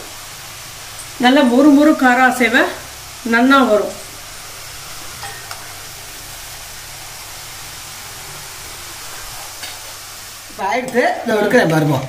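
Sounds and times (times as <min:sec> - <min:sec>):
dough sizzling in hot oil: 0:00.0 - 0:12.0.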